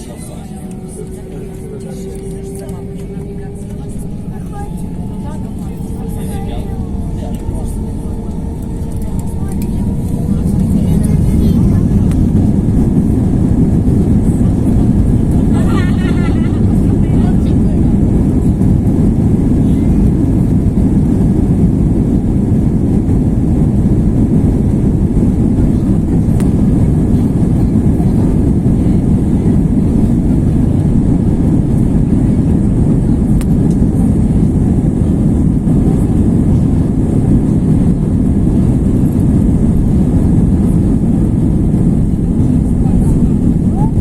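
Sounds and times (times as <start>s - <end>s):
jet engines rumbling: 0.0s - 44.0s.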